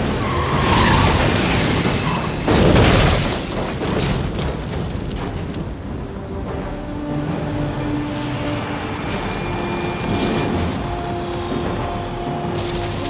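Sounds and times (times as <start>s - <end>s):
film score held notes: 0.0s - 13.0s.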